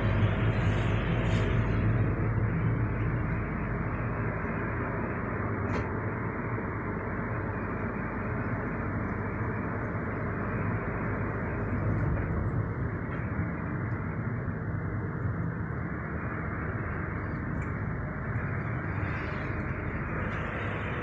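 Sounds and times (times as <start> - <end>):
railway coach rumble and hum: 0.0 - 21.0.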